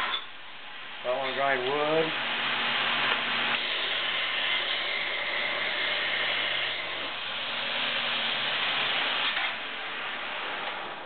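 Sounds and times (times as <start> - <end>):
belt grinder running: 1.4 - 10.9.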